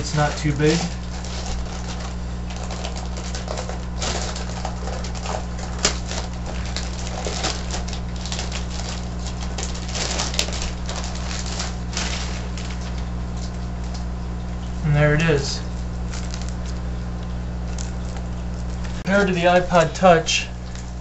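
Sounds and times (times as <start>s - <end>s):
plastic bag crinkling: 0.0s - 14.8s, 15.6s - 21.0s
steady low hum: 0.0s - 21.0s.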